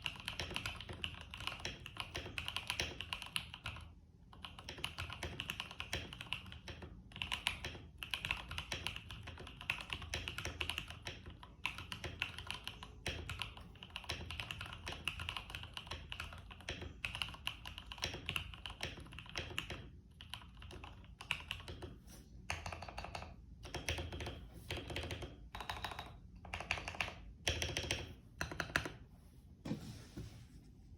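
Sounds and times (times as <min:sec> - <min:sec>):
keyboard typing: 0:00.0 - 0:29.0.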